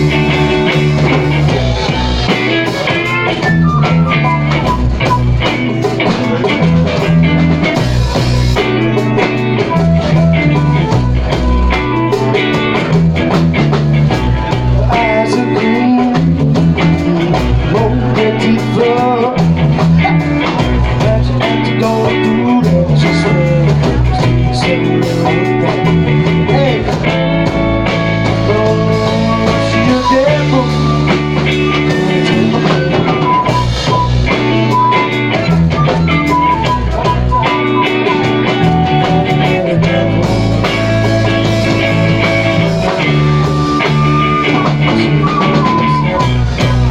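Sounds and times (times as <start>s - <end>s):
bass guitar: 0.0s - 46.9s
drums: 0.0s - 46.9s
electric guitar with bends: 0.0s - 46.9s.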